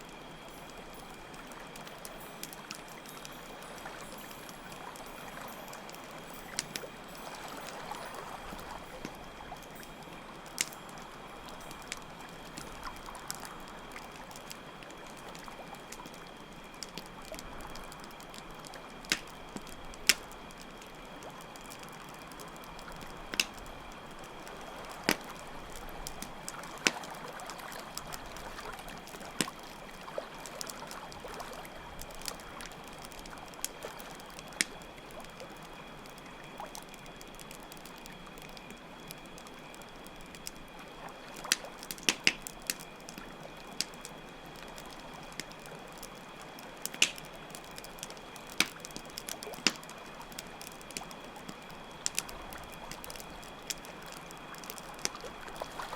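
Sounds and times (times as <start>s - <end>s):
campfire crackling: 0.0s - 55.9s
crickets trilling: 0.0s - 55.9s
flowing water: 0.0s - 55.9s.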